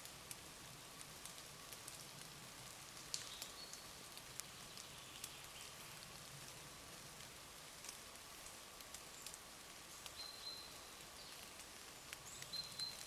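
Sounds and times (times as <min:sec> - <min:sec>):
light rain hiss: 0:00.0 - 0:13.0
raindrops ticking: 0:00.0 - 0:13.0.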